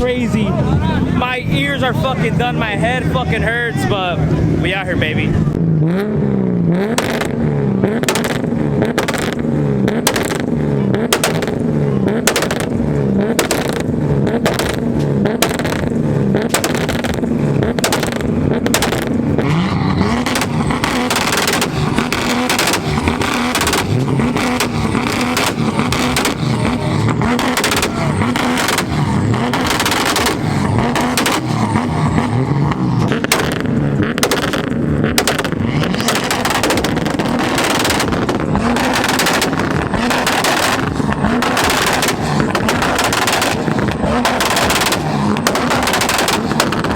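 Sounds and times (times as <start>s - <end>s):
car engines revving: 0.0s - 46.9s
exhaust bangs and pops: 0.0s - 46.9s.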